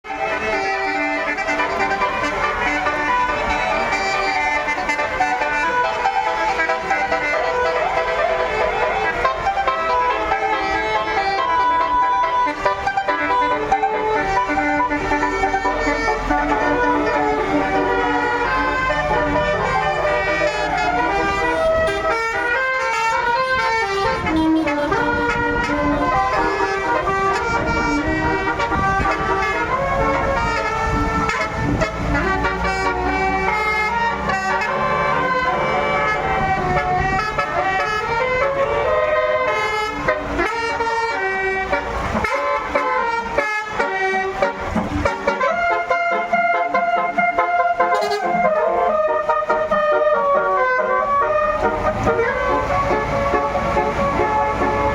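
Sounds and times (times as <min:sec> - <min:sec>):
bus multi-tone horn melody: 0:00.0 - 0:54.9
low engine rumble: 0:00.1 - 0:54.9.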